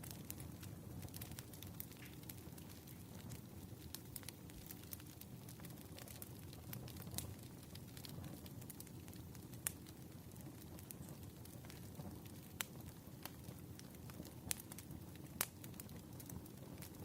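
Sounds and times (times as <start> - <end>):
fire burning rumble: 0.0 - 17.0
fire pops and snaps: 0.0 - 17.0.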